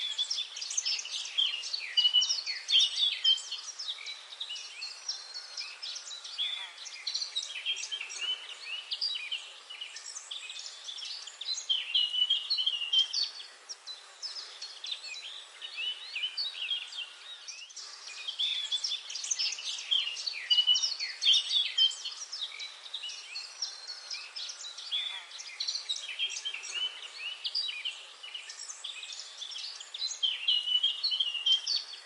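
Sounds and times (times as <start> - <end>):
faint steady hiss: 0.0 - 32.0
songbirds chirping and singing: 0.0 - 32.0.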